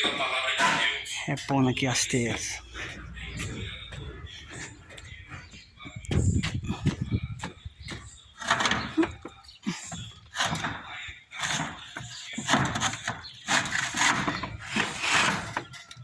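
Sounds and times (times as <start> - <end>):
roof tiles scraping and knocking: 0.0 - 16.0.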